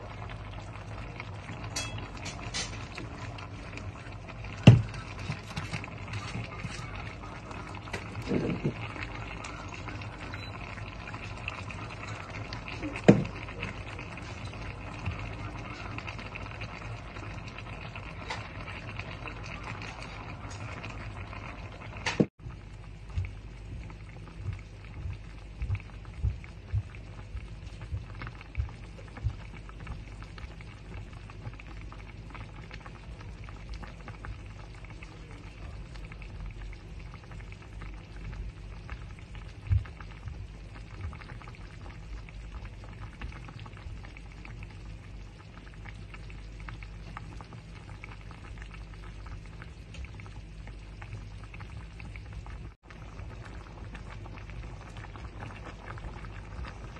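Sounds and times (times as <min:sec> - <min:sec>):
broth bubbling: 0:00.0 - 0:56.9.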